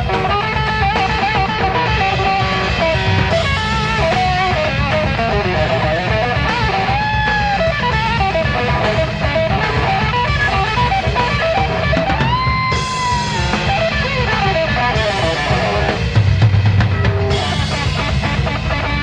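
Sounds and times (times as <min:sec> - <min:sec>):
busy drums: 0:00.0 - 0:19.0
electric bass: 0:00.0 - 0:19.0
fast lead guitar lines: 0:00.0 - 0:19.0.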